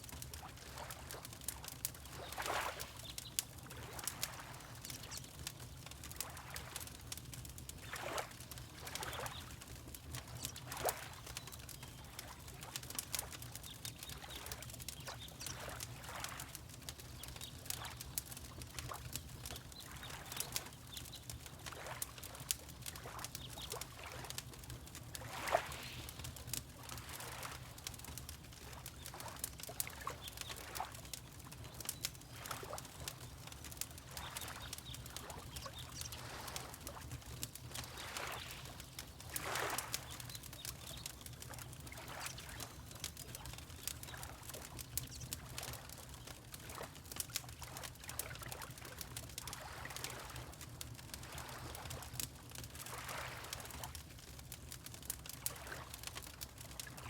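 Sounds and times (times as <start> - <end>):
fireplace crackling and popping: 0.0 - 57.0
water lapping: 0.4 - 5.2, 6.0 - 6.9, 7.8 - 16.5, 17.1 - 21.0, 21.6 - 50.6, 51.2 - 52.1, 52.8 - 54.0.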